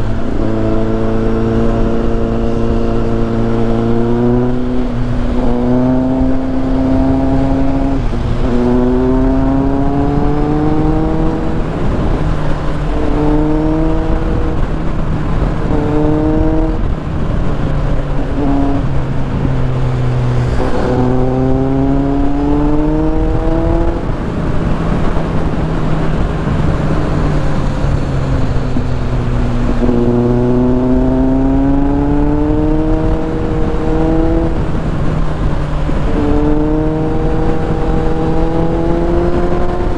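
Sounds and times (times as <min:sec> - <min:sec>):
motorcycle engine accelerating: 0:00.0 - 0:39.9
wind and wet road noise: 0:00.0 - 0:39.9.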